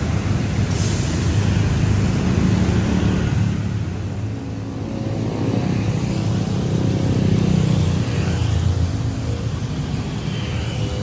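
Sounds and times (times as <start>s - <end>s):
large vehicle engine rumbling: 0.0s - 11.0s
traffic on wet road: 0.0s - 11.0s.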